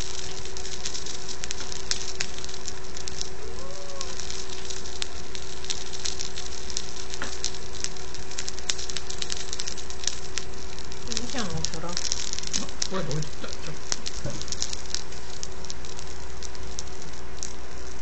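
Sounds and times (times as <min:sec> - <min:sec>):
faint hum: 0:00.0 - 0:18.0
food sizzling and popping: 0:00.0 - 0:18.0.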